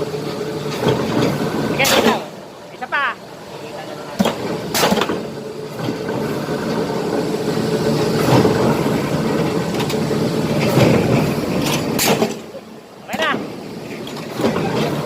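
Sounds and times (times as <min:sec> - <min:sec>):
power press flywheel hum: 0:00.0 - 0:15.0.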